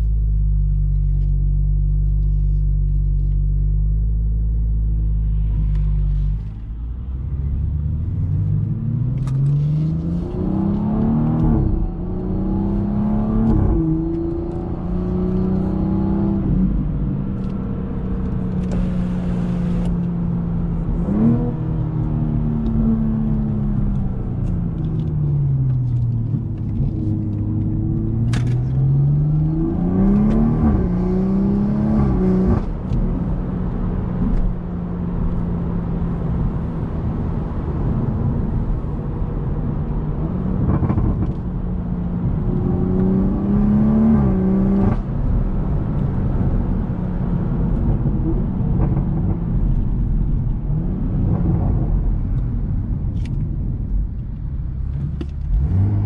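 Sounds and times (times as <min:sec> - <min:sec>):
car engine revving: 0:05.2 - 0:52.4, 0:54.8 - 0:56.0.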